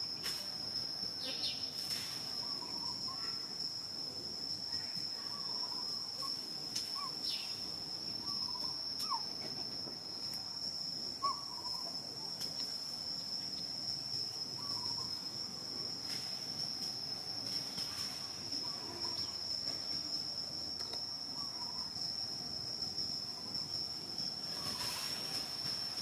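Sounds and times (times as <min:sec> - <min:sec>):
faint insect chirps: 0:00.0 - 0:26.0
insect drone: 0:00.0 - 0:26.0.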